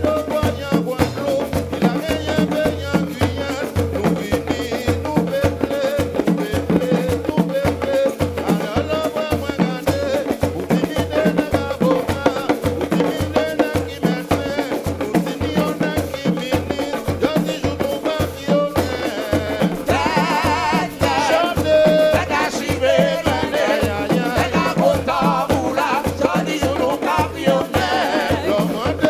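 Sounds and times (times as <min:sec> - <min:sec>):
large hand drums beating: 0:00.0 - 0:29.0
shakers and small percussion rattling: 0:00.0 - 0:29.0
voices singing: 0:00.0 - 0:29.0.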